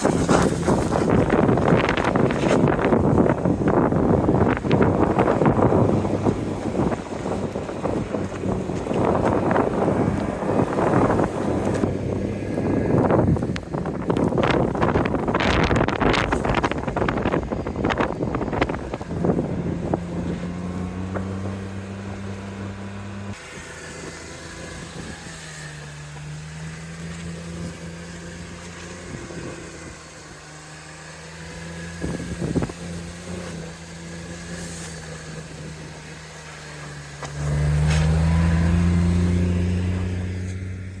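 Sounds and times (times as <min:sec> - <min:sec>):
wind noise: 0:00.0 - 0:30.4, 0:31.4 - 0:41.0
car engine running: 0:00.0 - 0:41.0.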